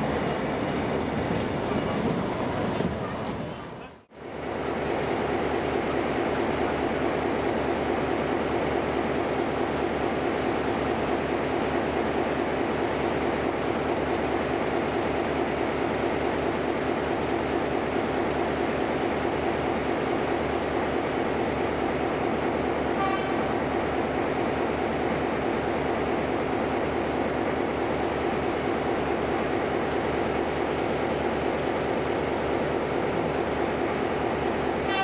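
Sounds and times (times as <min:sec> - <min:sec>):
diesel locomotive engine idling: 0:00.0 - 0:35.0.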